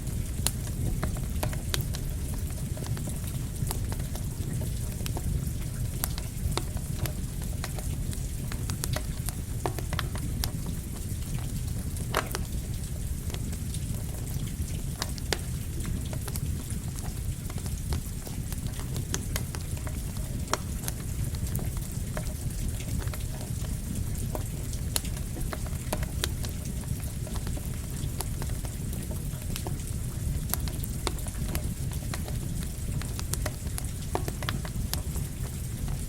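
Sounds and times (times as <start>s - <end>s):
rain: 0.0s - 36.0s
campfire crackling and popping: 0.1s - 36.0s.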